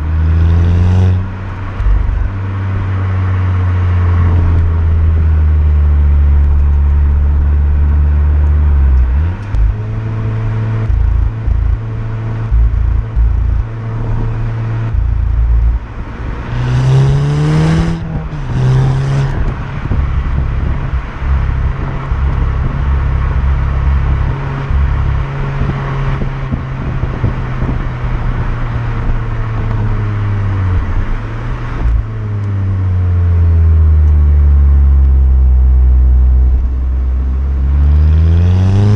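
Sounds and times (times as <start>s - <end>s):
car engine revving while driving: 0.0s - 38.9s.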